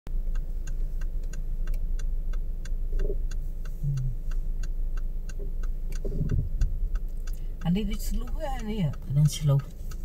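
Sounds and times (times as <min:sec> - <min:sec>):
car engine idling: 0:00.1 - 0:10.0
car indicator ticking: 0:00.1 - 0:10.0.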